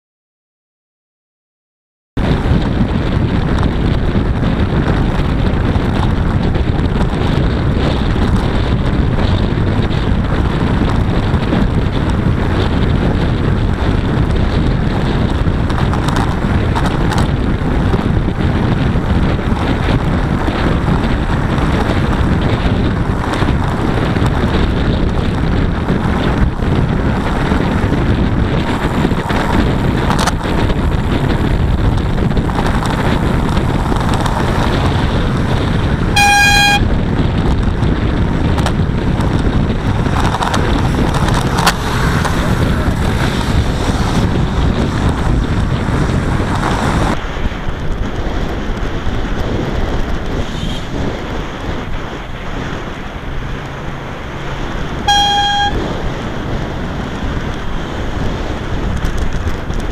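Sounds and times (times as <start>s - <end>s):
road noise: 2.2s - 59.9s
wind rushing on microphone: 2.2s - 59.9s.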